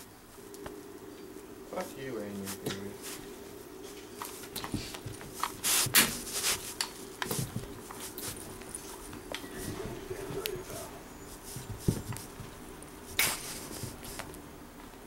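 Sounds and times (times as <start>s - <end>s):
steady low hum: 0.0s - 15.0s
cat scuffling on carpet: 1.8s - 14.4s.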